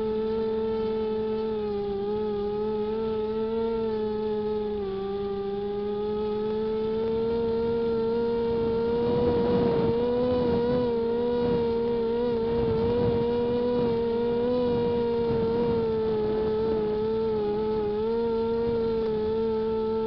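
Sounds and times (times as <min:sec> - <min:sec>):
electric motors whining: 0:00.0 - 0:20.0.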